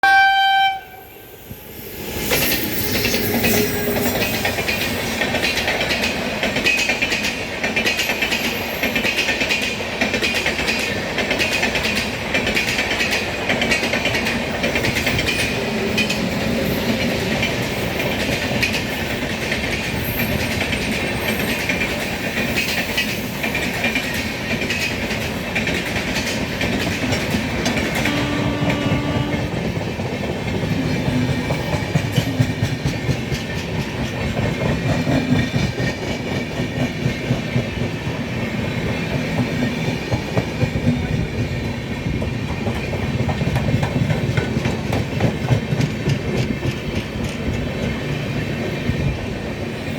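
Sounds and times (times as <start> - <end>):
train passing at speed: 0.0 - 49.9
wheels clacking over rail joints: 3.0 - 48.7.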